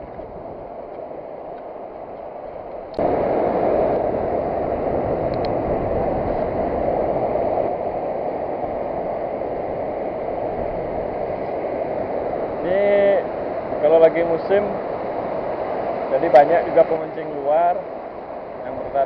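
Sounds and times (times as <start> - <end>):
ocean surf washing on beach: 0.0 - 19.0.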